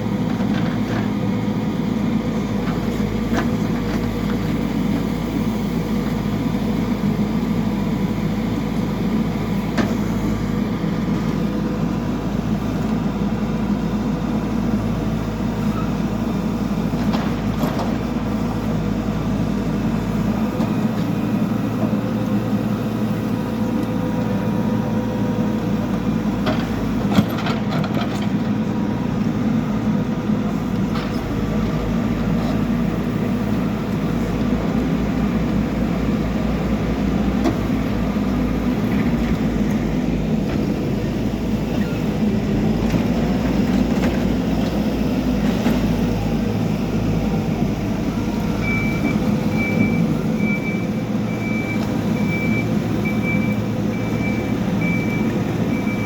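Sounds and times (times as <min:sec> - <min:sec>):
backhoe diesel engine under load: 0:00.0 - 0:56.0.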